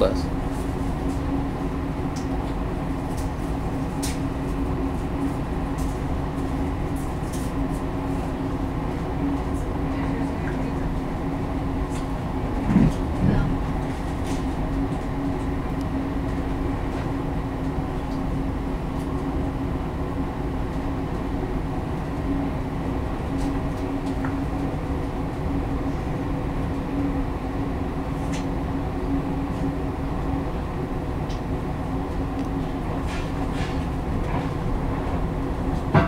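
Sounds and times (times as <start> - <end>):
constant low hum: 0.0 - 36.0
train rumble: 0.0 - 36.0.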